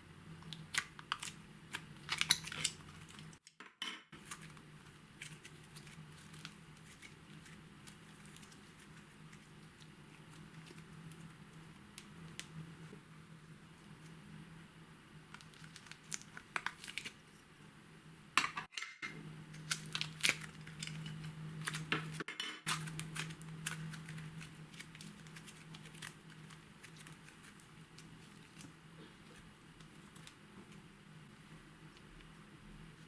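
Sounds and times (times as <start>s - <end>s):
steady low hum: 0.0s - 3.4s, 4.2s - 33.0s.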